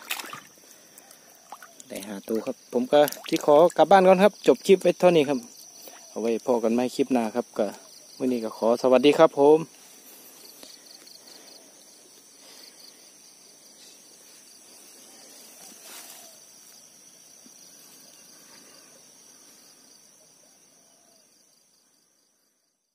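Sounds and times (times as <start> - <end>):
insects chirring: 0.0 - 22.9.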